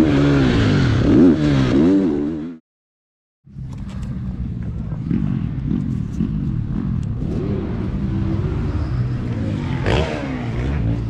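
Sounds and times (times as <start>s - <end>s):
motorcycle engine revving: 0.0s - 2.6s, 3.9s - 11.0s.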